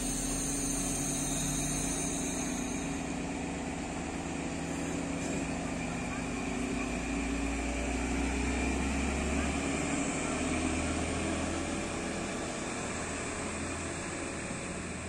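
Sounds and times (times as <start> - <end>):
diesel train engine droning: 0.0 - 15.0.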